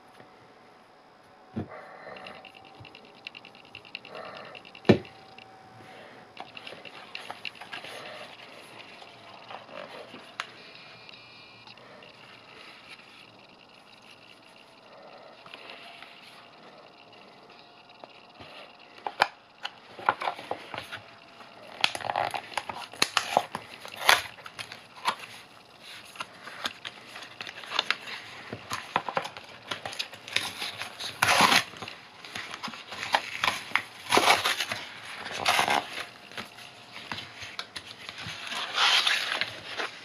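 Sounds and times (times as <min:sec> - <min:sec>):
paperboard crinkling and crackling: 0:01.7 - 0:40.0.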